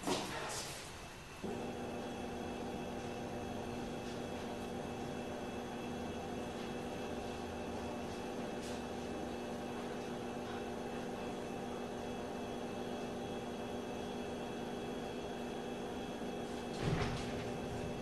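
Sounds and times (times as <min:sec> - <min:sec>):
steady tonal hum: 0:00.8 - 0:18.0.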